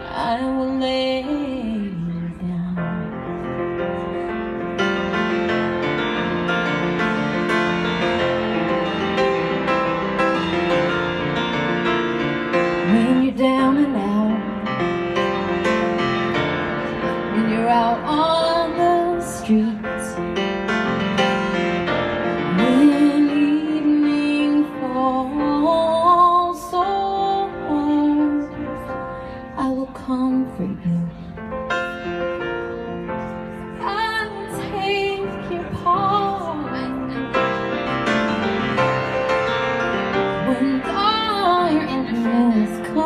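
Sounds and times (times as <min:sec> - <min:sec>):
grand piano accompaniment: 0:00.0 - 0:43.0.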